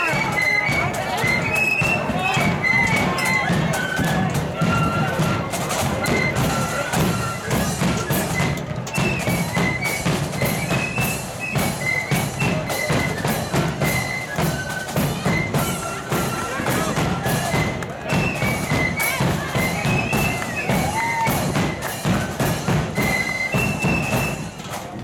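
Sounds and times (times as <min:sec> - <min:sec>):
flutes playing melody: 0:00.0 - 0:25.0
steady drum beat: 0:00.0 - 0:25.0.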